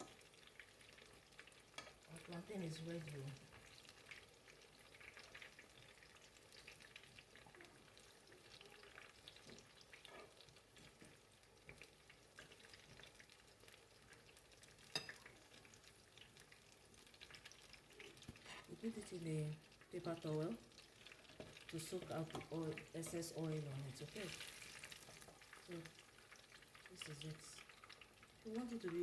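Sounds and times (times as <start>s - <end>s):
plantain sizzling in hot oil: 0.0s - 29.0s.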